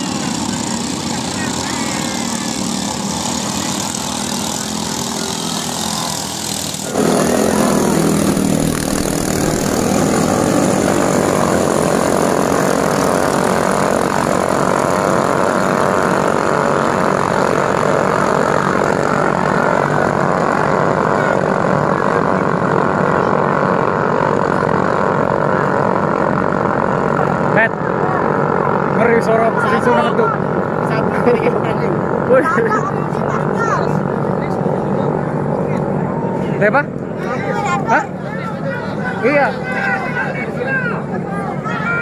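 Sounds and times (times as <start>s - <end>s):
boat engines droning: 0.0s - 42.0s.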